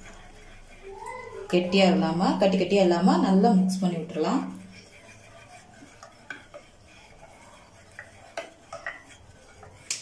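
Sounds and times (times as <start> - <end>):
spoon stirring in a bowl: 0.0 - 10.0.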